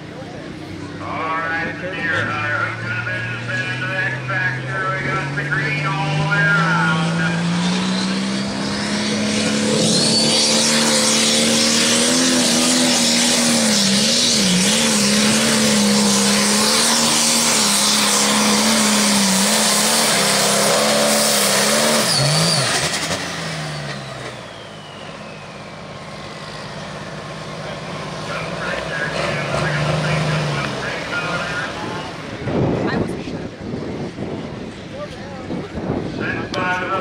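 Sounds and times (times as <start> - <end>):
engine winding down whine: 0.0 - 34.0
diesel tractor engine at full throttle: 0.0 - 37.0.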